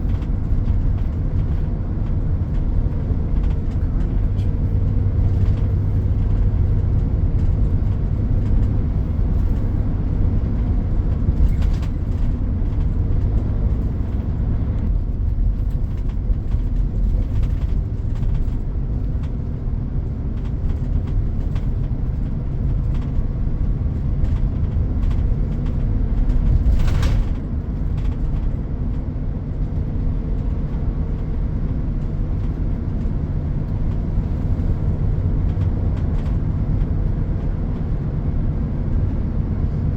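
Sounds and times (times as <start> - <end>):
road traffic rumble: 0.0 - 39.9
road-works machinery: 0.0 - 39.9.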